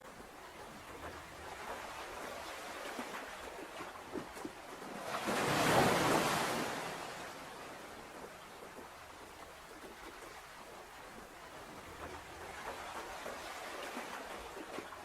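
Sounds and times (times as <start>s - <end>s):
ocean surf washing: 0.0s - 15.0s
wave breaking and receding: 0.1s - 15.0s.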